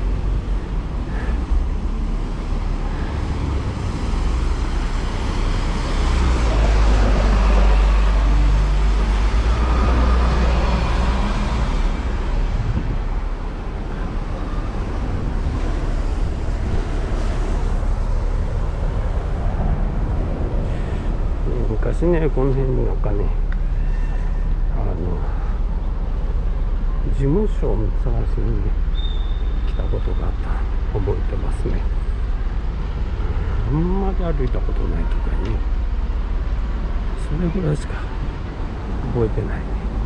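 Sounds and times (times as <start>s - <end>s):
road noise: 0.0s - 40.0s
vehicle engine rumble passing: 0.0s - 40.0s.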